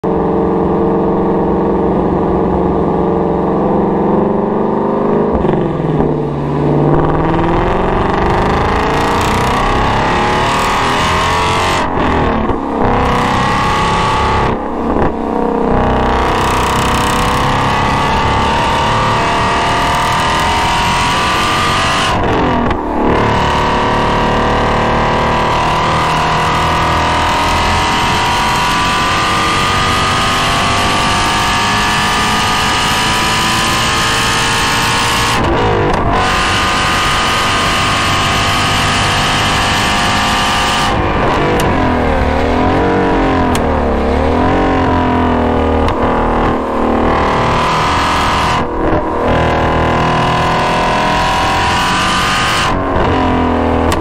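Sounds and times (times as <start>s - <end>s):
car engine accelerating hard: 0.0s - 54.0s.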